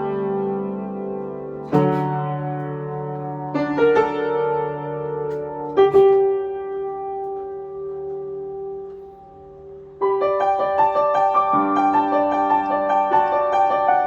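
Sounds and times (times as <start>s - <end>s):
slow piano ballad: 0.0s - 14.0s.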